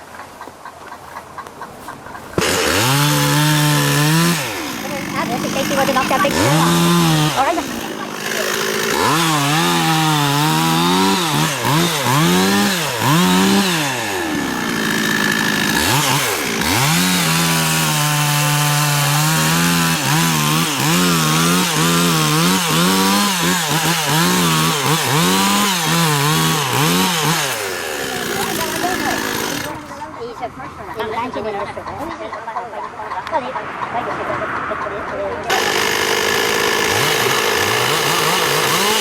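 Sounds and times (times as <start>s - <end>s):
chainsaw cutting: 2.3s - 30.1s, 35.5s - 39.0s.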